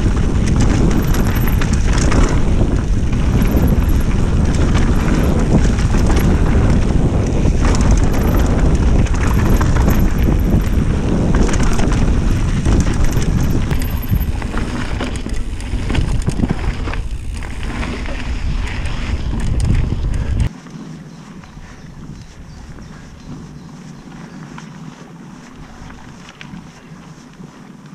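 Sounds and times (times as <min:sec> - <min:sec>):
wind buffeting microphone: 0:00.0 - 0:27.6
bike clicks and rattles: 0:00.0 - 0:27.9
tyre noise on dirt: 0:00.0 - 0:27.9.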